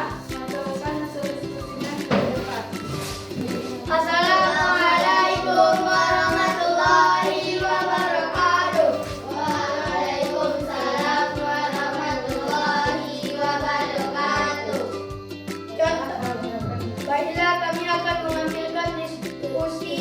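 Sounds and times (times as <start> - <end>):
song with singing over a beat: 0.0 - 20.0.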